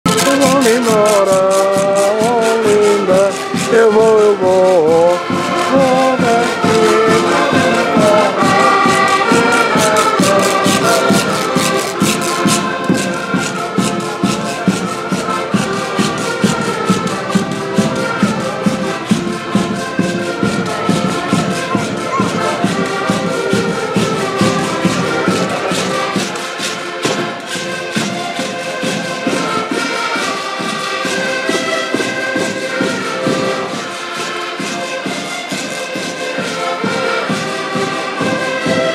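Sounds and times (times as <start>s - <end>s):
folk band melody: 0.0s - 38.9s
rattling percussion: 0.0s - 38.9s
steady drumbeat: 0.0s - 38.9s.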